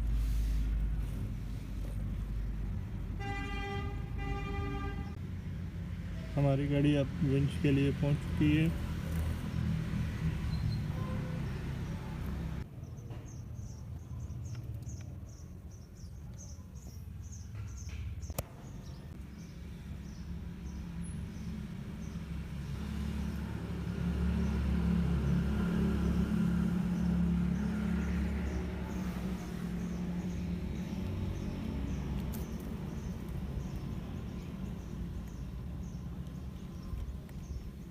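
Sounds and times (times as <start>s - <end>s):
vehicle engine rumbling: 0.0s - 15.4s, 17.3s - 37.9s.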